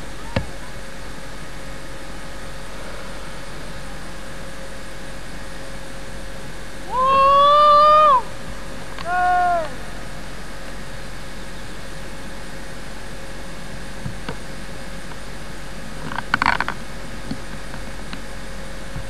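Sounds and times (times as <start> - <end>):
camcorder hiss and hum: 0.0 - 19.0.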